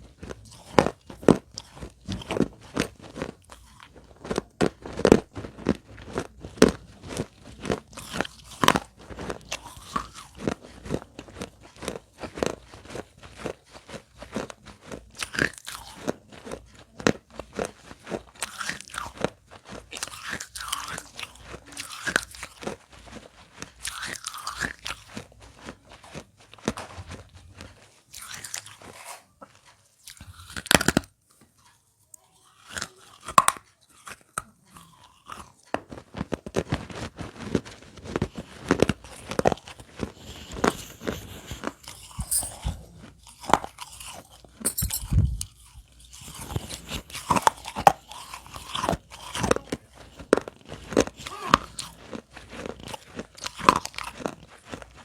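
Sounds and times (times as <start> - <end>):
chewing clay pot pieces: 0.0 - 55.0.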